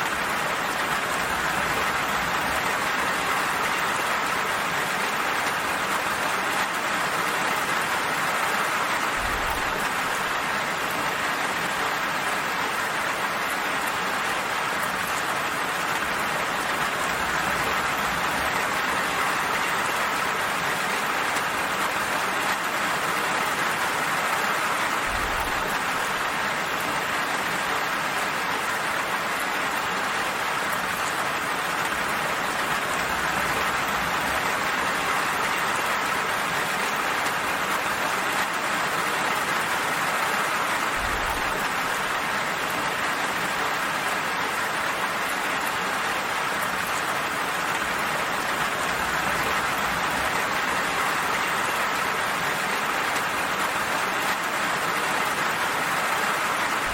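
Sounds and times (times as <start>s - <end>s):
gentle rain falling: 0.0s - 56.9s.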